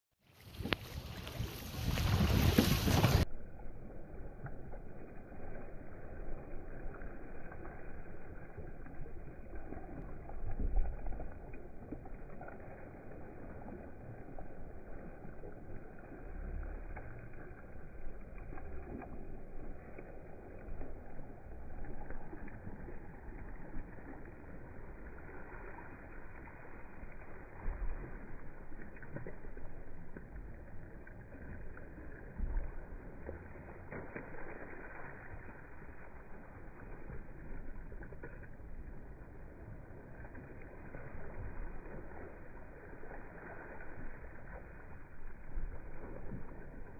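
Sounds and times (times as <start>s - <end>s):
water rushing and splashing: 0.2s - 46.9s.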